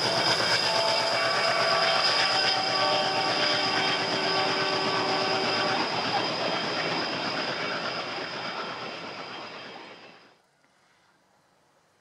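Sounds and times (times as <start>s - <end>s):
high whine: 0.0s - 10.4s
train rolling past on rails: 0.0s - 10.4s.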